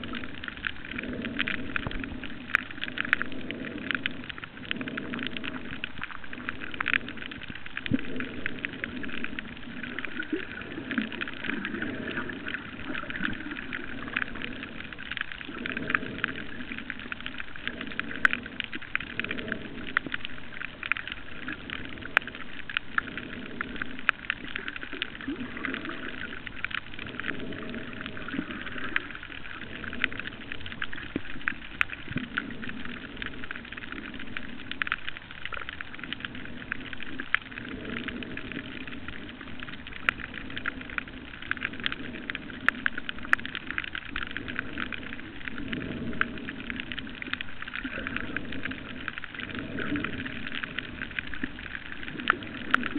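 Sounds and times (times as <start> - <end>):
dense crackle of small clicks: 0.0 - 52.9.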